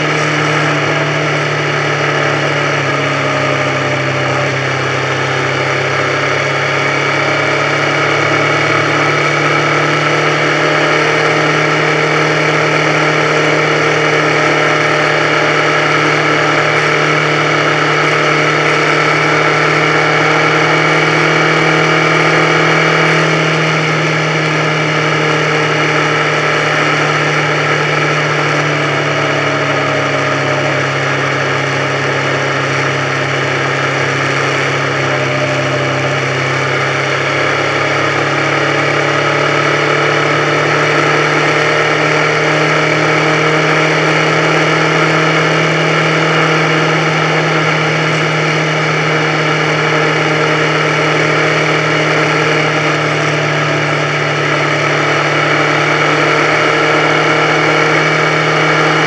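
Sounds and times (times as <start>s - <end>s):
motorcycle engine running: 0.0s - 59.0s
road and wind noise: 0.0s - 59.0s.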